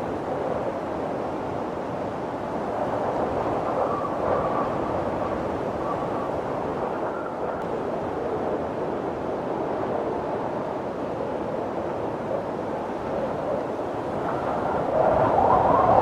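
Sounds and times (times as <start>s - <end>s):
snowstorm wind blowing: 0.0s - 16.0s.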